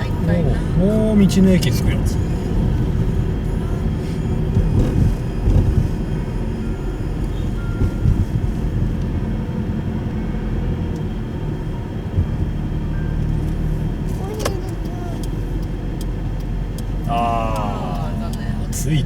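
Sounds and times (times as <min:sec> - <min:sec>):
road noise inside car: 0:00.0 - 0:19.0.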